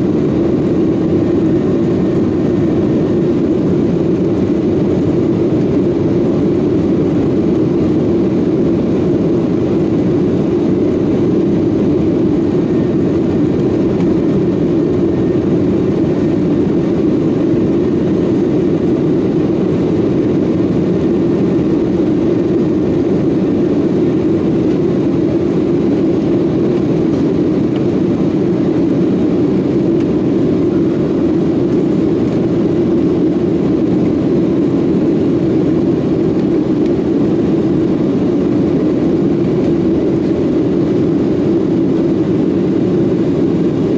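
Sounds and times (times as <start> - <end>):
jet engine drone in cabin: 0.0 - 43.9.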